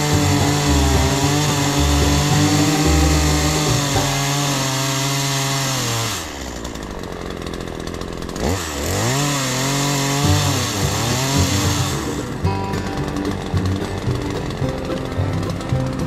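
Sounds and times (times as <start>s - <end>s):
chainsaw cutting branch: 0.0s - 16.0s.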